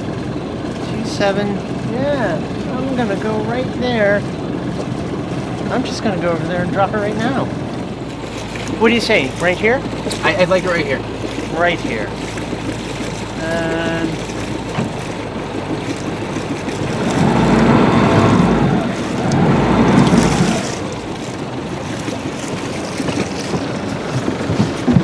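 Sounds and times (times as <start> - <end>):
low wind buffeting: 0.0 - 25.0
rushing wind and water: 0.0 - 25.0.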